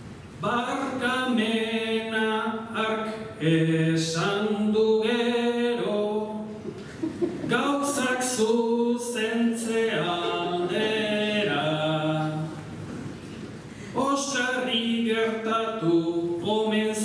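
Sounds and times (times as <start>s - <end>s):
man singing unaccompanied: 0.4s - 6.6s, 7.5s - 12.6s, 13.9s - 17.0s.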